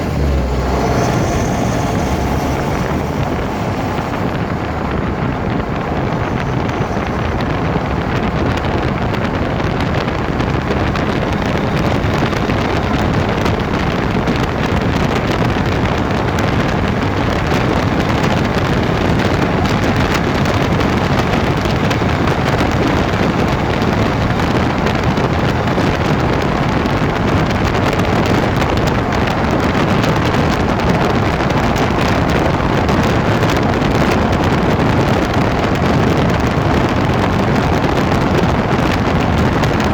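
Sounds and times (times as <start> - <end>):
grinding from car: 0.0 - 39.9
road and wind noise: 0.0 - 39.9.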